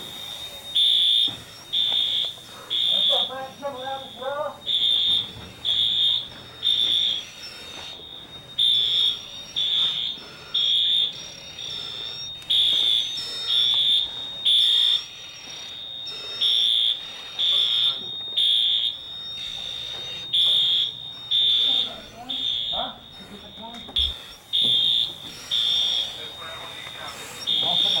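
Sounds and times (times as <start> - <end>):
fire alarm beeping: 0.0 - 28.0.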